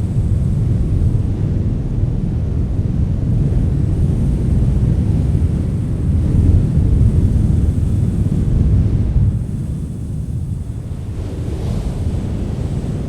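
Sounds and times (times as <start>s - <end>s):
strong wind rumbling: 0.0s - 13.0s.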